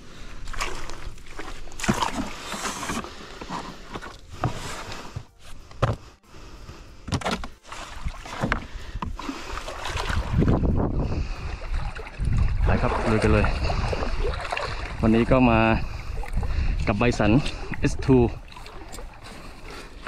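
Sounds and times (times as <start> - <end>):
water sloshing and splashing: 0.0 - 5.1, 7.2 - 20.0.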